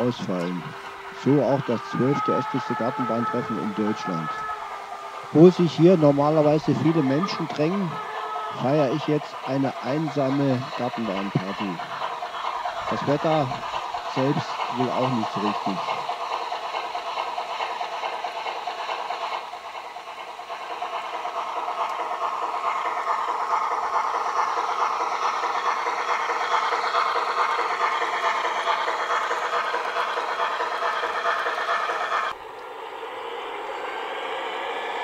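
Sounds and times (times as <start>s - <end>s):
model train wheels rattling: 0.0s - 33.4s.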